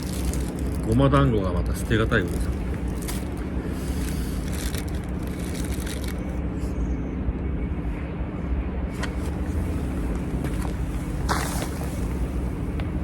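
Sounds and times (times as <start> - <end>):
low rumble with hum: 0.0 - 13.0.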